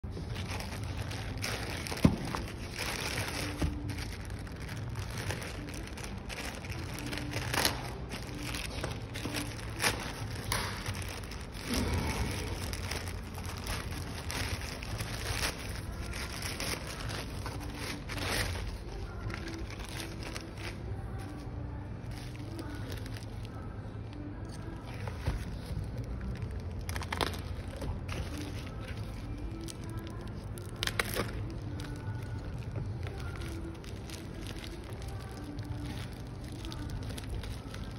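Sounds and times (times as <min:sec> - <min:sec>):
plastic bags crinkling: 0:00.0 - 0:37.9.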